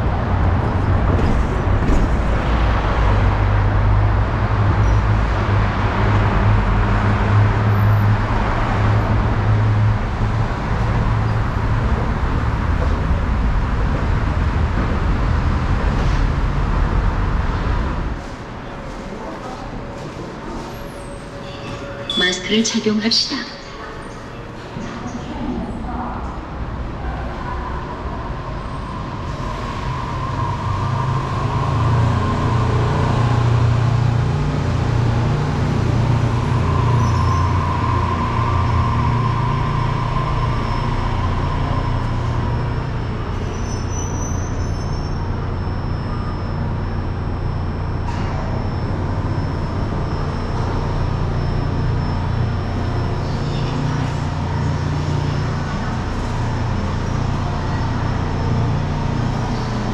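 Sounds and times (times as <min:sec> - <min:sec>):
monorail train motor hum: 0:00.0 - 0:59.9
train whine: 0:00.0 - 0:59.9.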